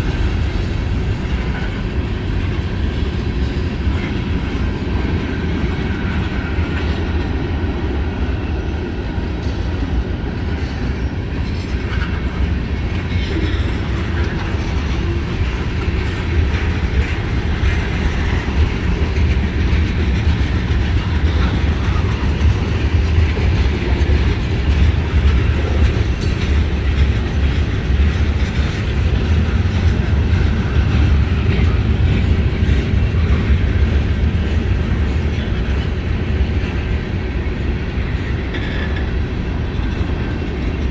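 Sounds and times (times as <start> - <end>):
freight train rumbling past: 0.0 - 40.9
train wheel clatter: 0.0 - 40.9.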